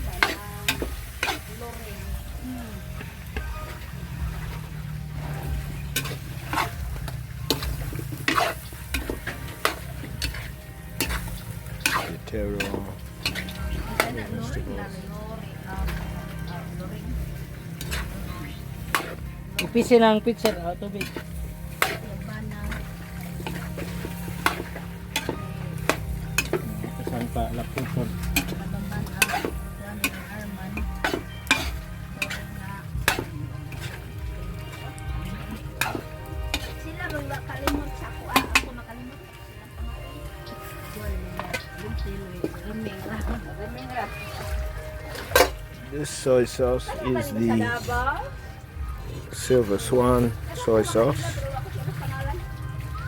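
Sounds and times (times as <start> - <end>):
utensil scraping the pan: 0.0 - 2.2, 3.0 - 38.8, 40.5 - 48.0
food sizzling in a wok: 0.0 - 49.1.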